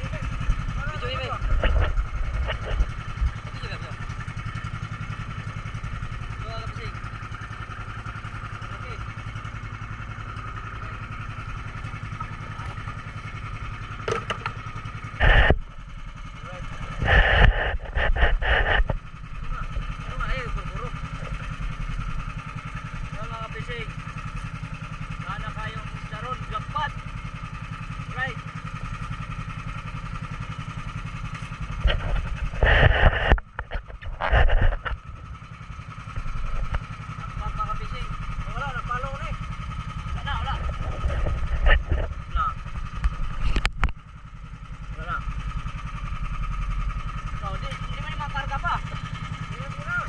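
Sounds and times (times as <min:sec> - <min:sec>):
boat engine puttering: 0:00.0 - 0:50.0.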